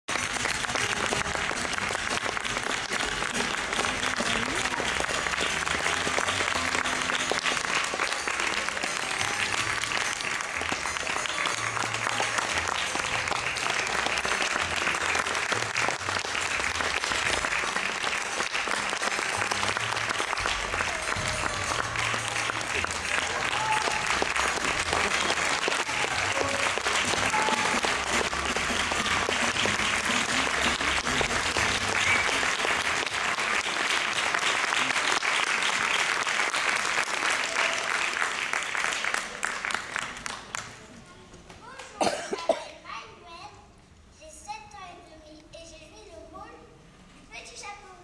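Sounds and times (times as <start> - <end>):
audience applauding: 0.1 - 41.0.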